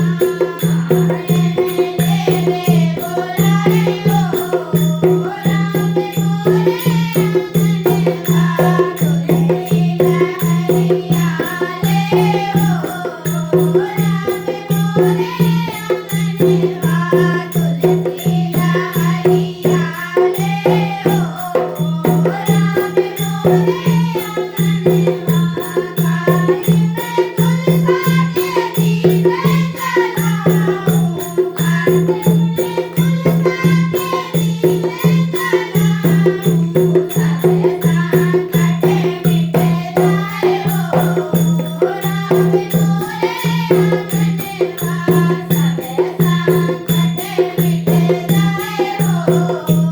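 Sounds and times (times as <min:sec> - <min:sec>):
rattling percussion: 0:00.0 - 0:49.9
voices singing devotional song: 0:00.0 - 0:49.9.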